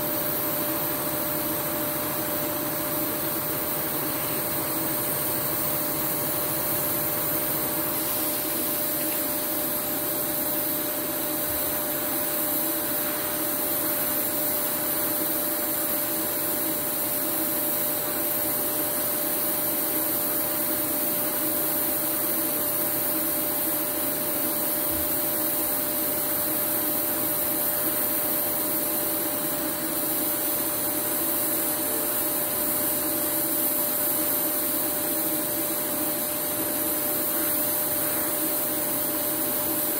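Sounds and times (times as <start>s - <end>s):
steady hum: 0.0s - 39.9s
welding arc hissing: 0.0s - 39.9s.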